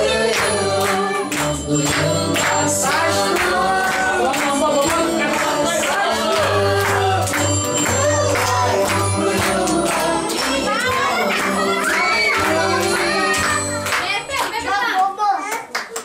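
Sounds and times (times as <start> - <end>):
person singing: 0.0 - 13.8.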